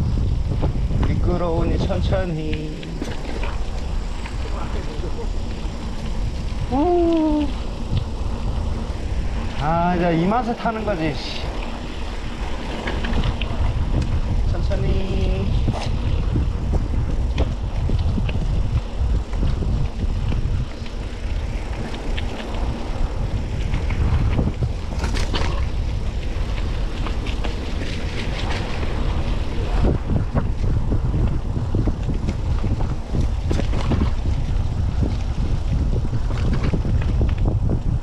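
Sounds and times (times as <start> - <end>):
bike rattling and clicking: 0.0 - 38.0
wind rushing over microphone: 0.0 - 38.0.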